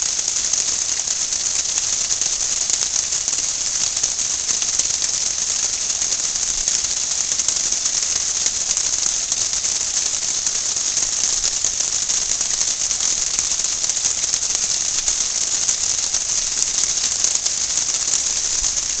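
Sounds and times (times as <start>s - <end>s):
waterfall splashing into pond: 0.0s - 19.0s.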